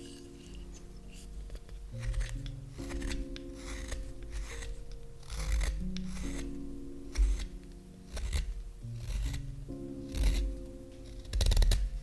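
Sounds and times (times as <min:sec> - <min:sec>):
knife cutting wood: 0:00.0 - 0:12.0
knife scraping wood: 0:00.0 - 0:12.0
soft background music: 0:00.0 - 0:12.0.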